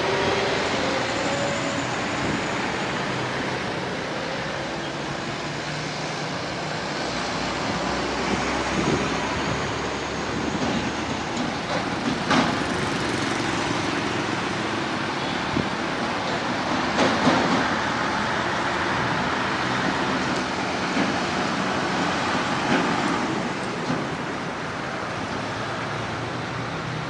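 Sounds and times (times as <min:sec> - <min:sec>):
passing vehicles rushing: 0:00.0 - 0:27.0.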